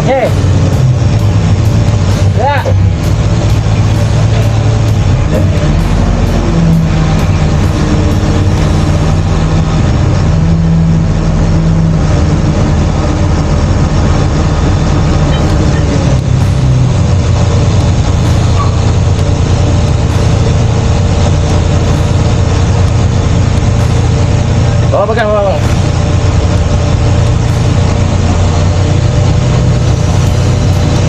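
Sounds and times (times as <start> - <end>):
diesel engine running loudly: 0.0 - 31.0.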